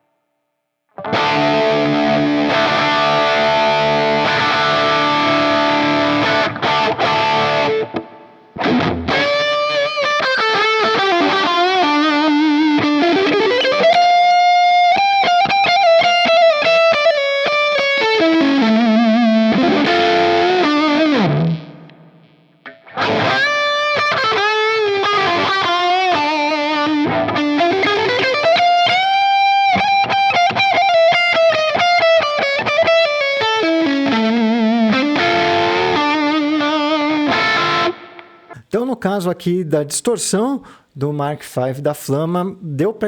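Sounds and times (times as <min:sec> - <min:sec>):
distorted electric guitar: 0:01.0 - 0:38.7.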